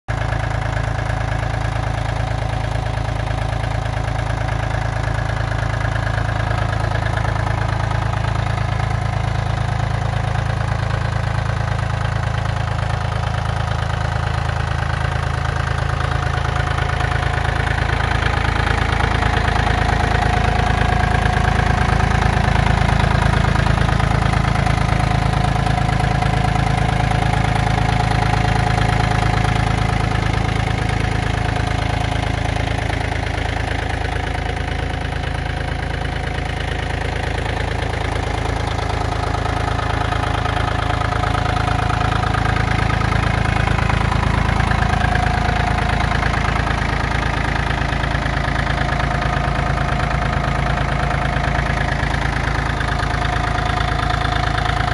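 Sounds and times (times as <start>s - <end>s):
tractor diesel engine idling: 0.0s - 54.9s.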